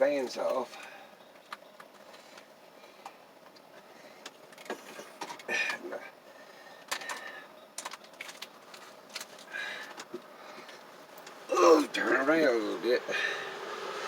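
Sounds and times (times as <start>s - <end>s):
faint air conditioner hum: 0.0s - 14.0s.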